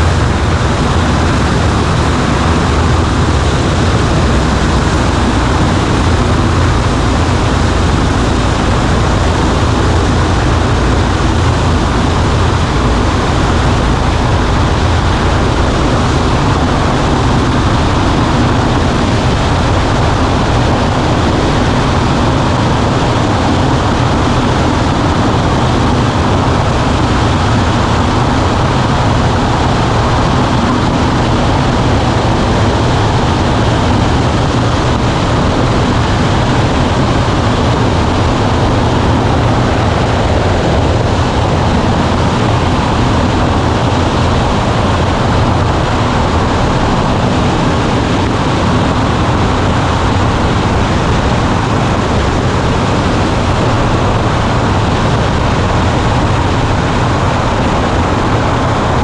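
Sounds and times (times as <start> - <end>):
airflow rushing over cabin: 0.0 - 59.0
airplane engine and propeller droning: 0.0 - 59.0.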